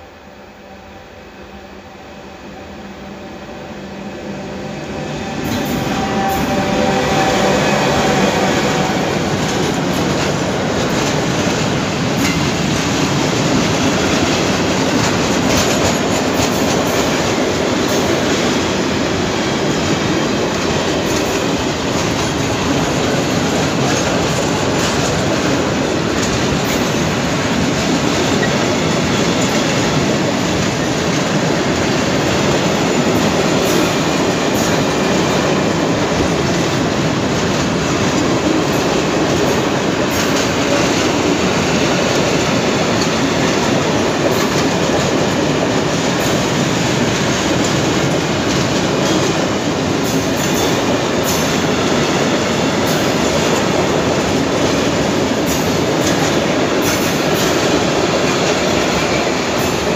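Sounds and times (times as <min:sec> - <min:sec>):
locomotive tones: 0:00.9 - 0:59.9
freight train wheels clattering: 0:04.7 - 0:59.9.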